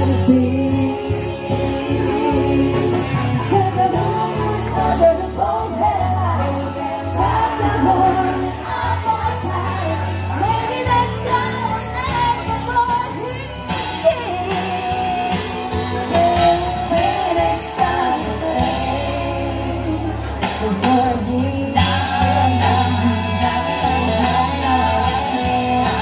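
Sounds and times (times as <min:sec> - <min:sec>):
bass line: 0:00.0 - 0:26.0
electric guitar: 0:00.0 - 0:26.0
woman singing: 0:00.0 - 0:26.0.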